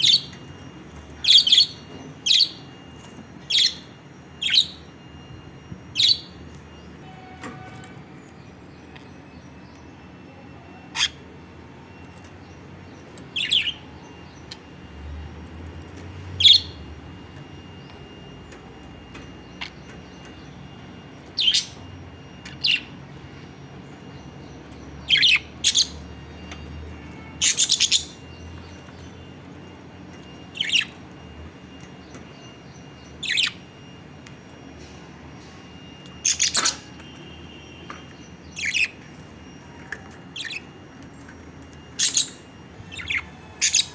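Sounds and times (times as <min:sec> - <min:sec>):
lovebirds chirping: 0:00.0 - 0:07.3, 0:08.1 - 0:34.6, 0:36.0 - 0:43.9.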